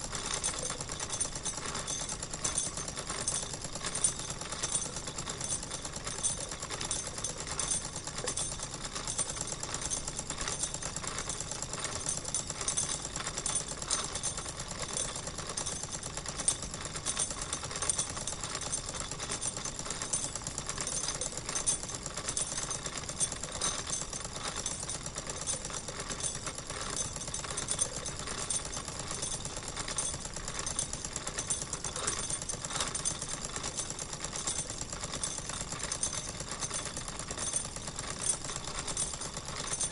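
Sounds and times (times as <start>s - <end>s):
toy steam engine clattering: 0.0s - 39.9s.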